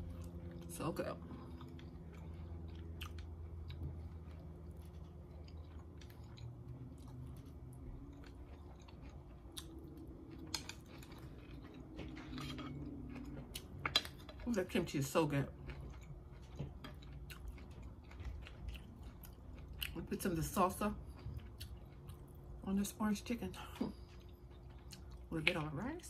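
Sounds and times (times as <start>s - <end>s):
person chewing food: 0.0s - 22.6s, 23.6s - 25.7s.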